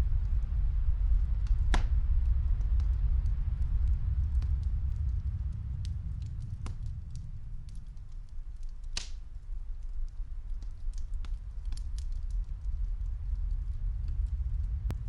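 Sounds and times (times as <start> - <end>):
muffled snowstorm wind: 0.0 - 15.0
wood fire crackling: 0.0 - 15.0.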